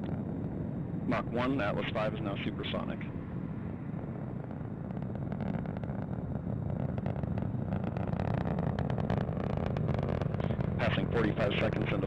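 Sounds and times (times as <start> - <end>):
distant rocket rumble: 0.0 - 12.0
faint crackling: 0.0 - 12.0.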